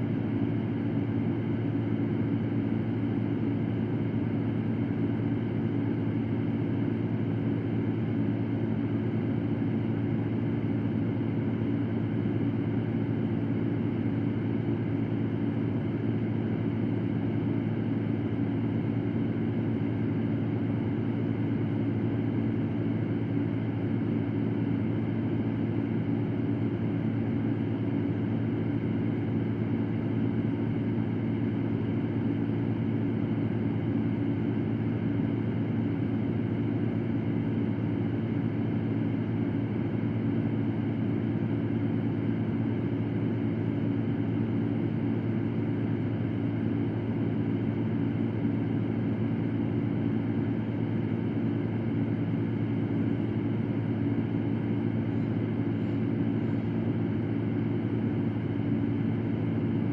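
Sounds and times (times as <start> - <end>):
electric fan whirring: 0.0 - 59.9.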